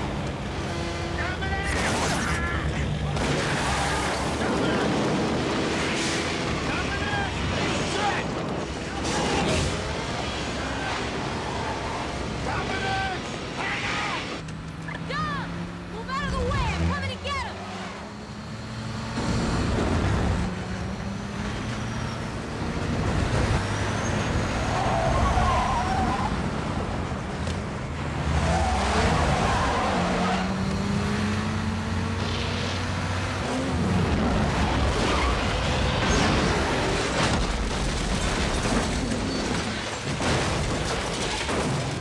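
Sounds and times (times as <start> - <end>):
car engines revving: 0.0 - 42.0
road and wind noise: 0.0 - 42.0.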